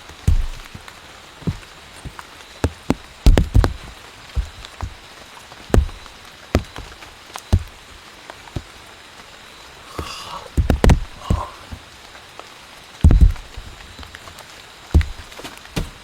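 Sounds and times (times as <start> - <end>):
sharp taps and thuds: 0.0 - 8.7, 10.0 - 11.9, 13.0 - 14.2, 14.9 - 16.0.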